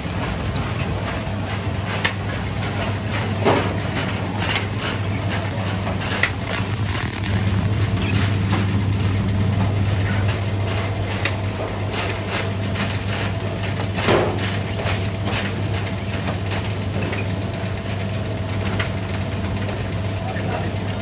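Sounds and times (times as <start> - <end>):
conveyor machinery hum: 0.0 - 21.0.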